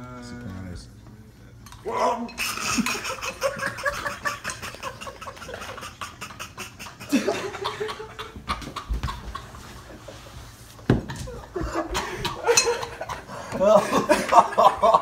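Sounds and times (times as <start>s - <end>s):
people laughing: 1.9s - 15.0s.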